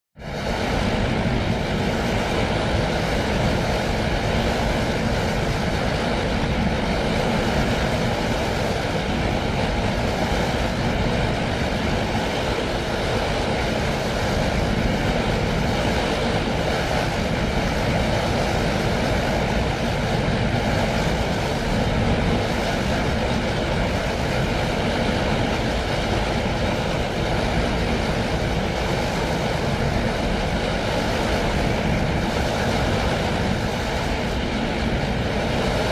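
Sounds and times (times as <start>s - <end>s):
steady low rumble: 0.2s - 35.9s.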